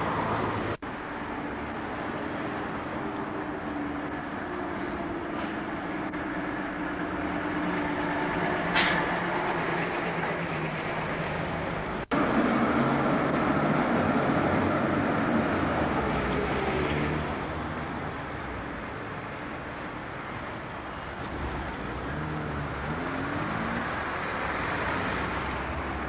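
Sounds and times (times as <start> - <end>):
street traffic noise: 0.0 - 26.0
trams passing: 0.0 - 26.0.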